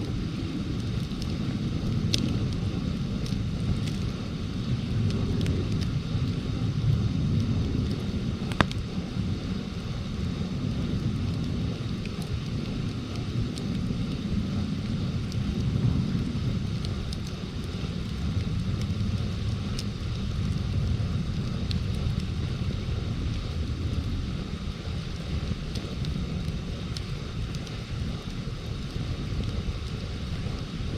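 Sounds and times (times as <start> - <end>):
campfire crackling: 0.0 - 30.9
wind buffeting microphone: 0.0 - 30.9.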